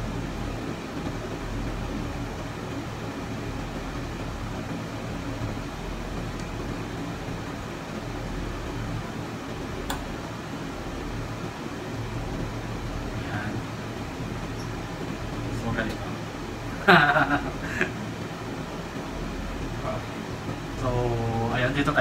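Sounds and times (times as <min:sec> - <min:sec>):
ventilation hum and hiss: 0:00.0 - 0:22.0.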